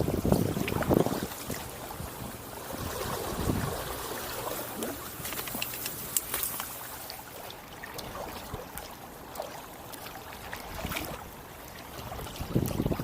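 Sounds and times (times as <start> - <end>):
paddle splashing water: 0.0 - 13.0
steady wash of water: 0.0 - 13.0.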